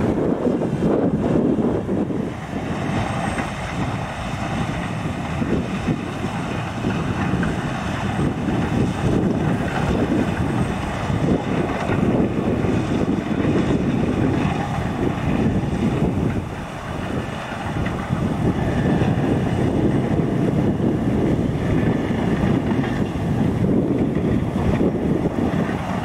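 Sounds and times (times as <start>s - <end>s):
combine harvester droning: 0.0s - 26.0s
wind buffeting microphone: 0.0s - 26.0s.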